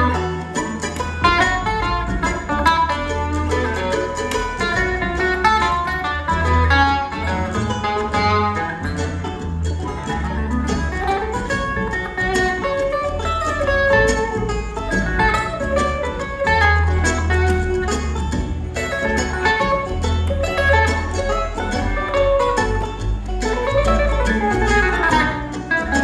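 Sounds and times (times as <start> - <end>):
acoustic guitar picked runs: 0.0 - 26.0
mandolin picking: 0.0 - 26.0
upright bass: 0.0 - 26.0.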